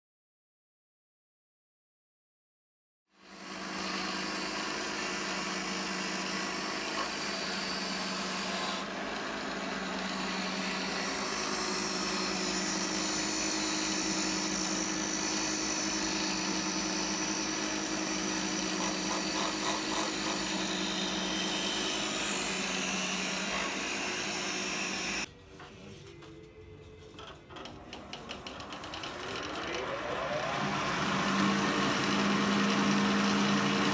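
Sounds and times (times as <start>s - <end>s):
bench grinder motor running: 3.2s - 25.3s, 28.2s - 33.9s
file scraping spinning steel: 3.3s - 25.3s, 27.6s - 33.9s.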